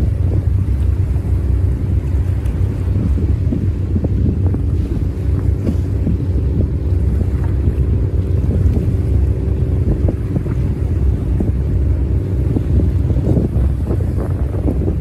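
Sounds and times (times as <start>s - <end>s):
boat diesel engine droning: 0.0s - 15.0s
waves splashing: 0.0s - 15.0s
wind buffeting microphone: 0.0s - 15.0s.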